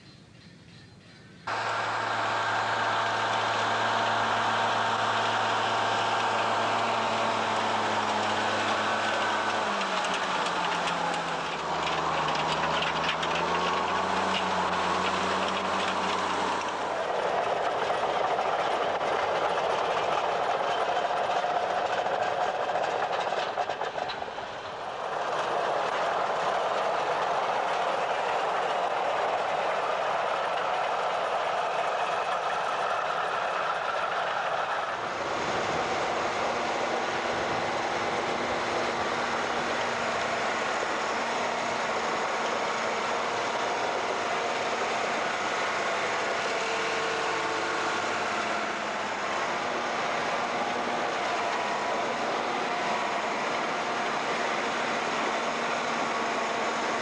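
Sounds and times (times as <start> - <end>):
tractor diesel engine running: 1.5 - 57.0.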